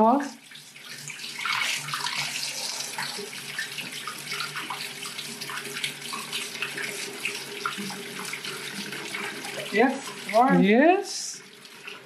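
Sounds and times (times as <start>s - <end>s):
tap water splashing into steel sink: 0.6s - 10.6s.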